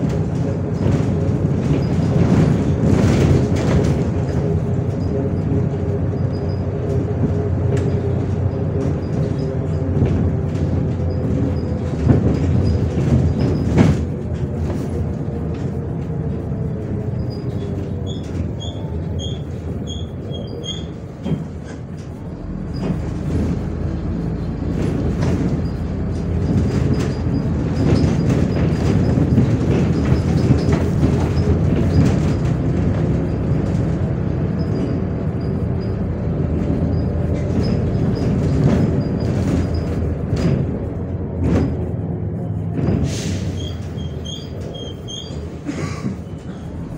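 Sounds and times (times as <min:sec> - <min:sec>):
bus engine and road drone: 0:00.0 - 0:46.9
rattling clunks from bus body: 0:00.0 - 0:46.9.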